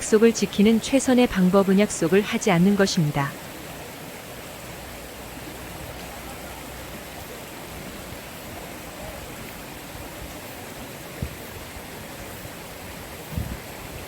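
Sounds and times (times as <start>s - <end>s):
stream water flowing over rocks: 0.0s - 14.0s.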